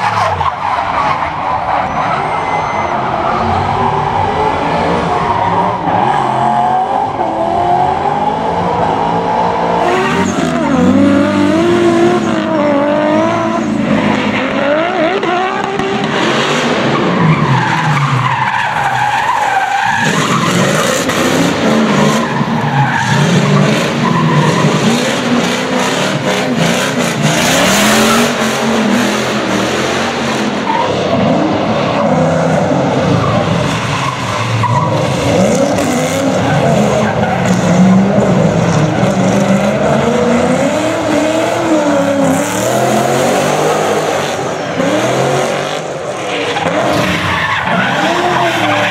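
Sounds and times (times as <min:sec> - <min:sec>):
car engines revving hard: 0:00.0 - 0:48.9
tyres squealing and skidding: 0:00.0 - 0:48.9.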